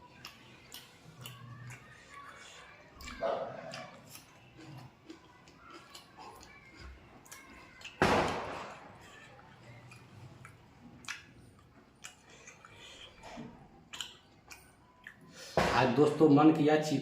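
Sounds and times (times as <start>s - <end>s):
chewing clicks and smacks: 0.0s - 15.3s.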